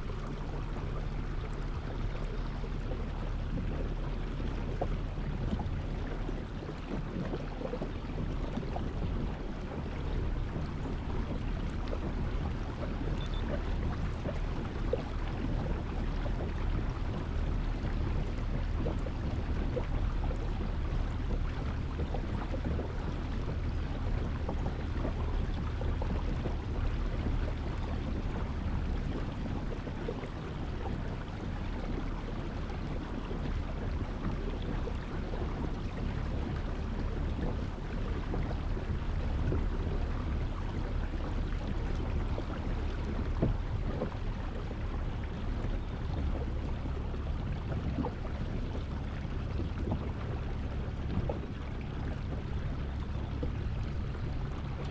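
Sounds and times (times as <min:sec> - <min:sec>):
wind and water rushing: 0:00.0 - 0:54.9
wind buffeting microphone: 0:00.0 - 0:54.9.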